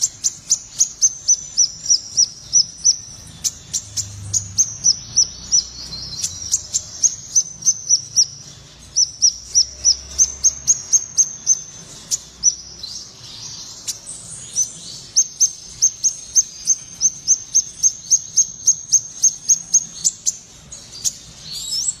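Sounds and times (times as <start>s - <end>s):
songbird whistling: 0.0s - 22.0s.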